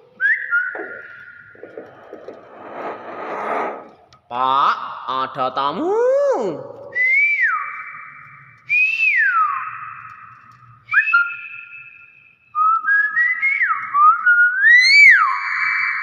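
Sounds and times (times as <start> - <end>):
myna whistling: 0.0 - 3.8, 6.8 - 16.0.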